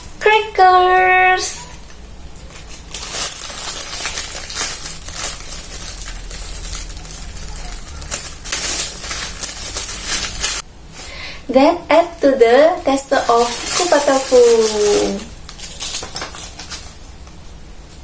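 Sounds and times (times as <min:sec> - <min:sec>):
crackers crinkling: 0:01.7 - 0:11.1, 0:12.2 - 0:18.0.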